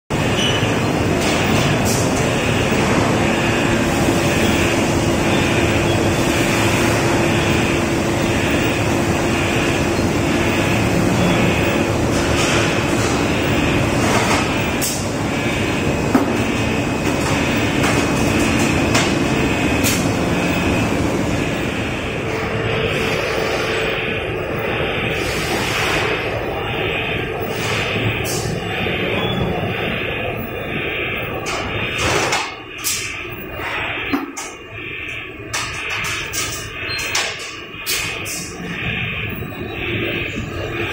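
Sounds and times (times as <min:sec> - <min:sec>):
machine humming drone: 0:00.1 - 0:40.9.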